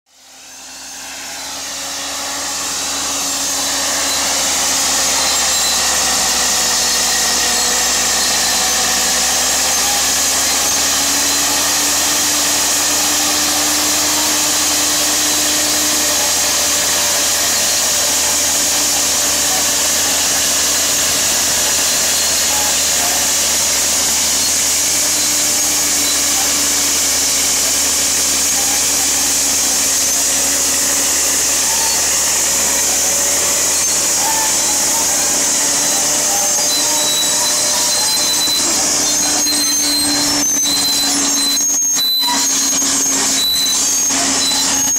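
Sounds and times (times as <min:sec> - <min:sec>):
crawler tractor engine under load: 0:00.1 - 0:44.9.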